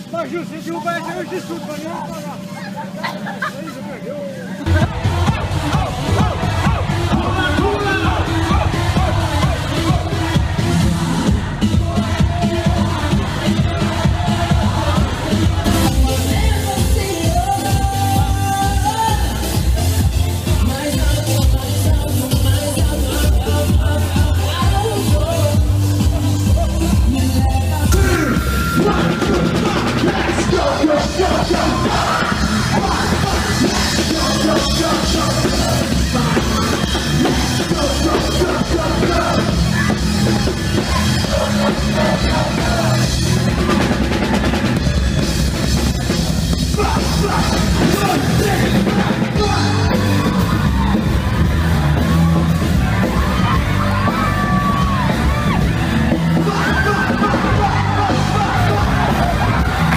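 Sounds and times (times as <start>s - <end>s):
people yelling: 0.0s - 16.5s, 25.9s - 45.1s, 46.0s - 59.9s
loud music with drums and bass: 4.4s - 59.9s.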